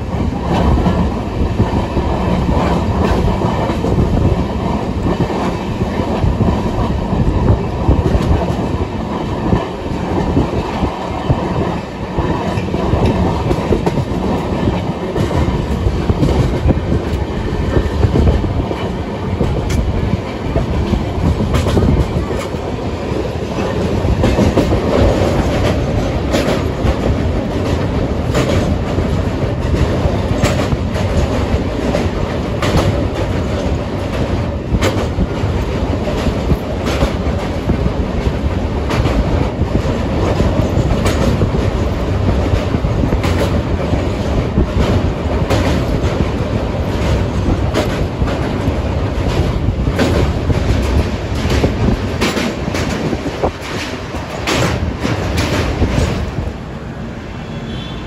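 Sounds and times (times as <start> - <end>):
wheels clicking on rail joints: 0.0 - 56.6
train rumbling over bridge: 0.0 - 58.0.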